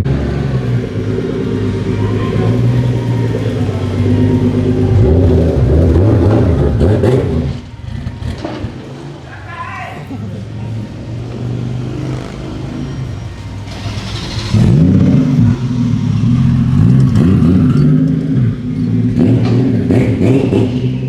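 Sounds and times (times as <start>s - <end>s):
car engine and exhaust revving: 0.0s - 9.3s, 10.2s - 21.0s.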